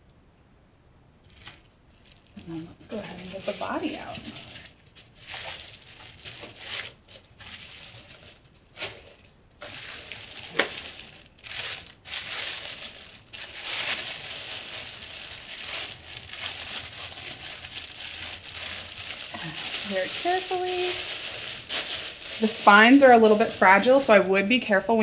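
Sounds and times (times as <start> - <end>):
plastic wrapping crinkling: 1.2 - 24.8.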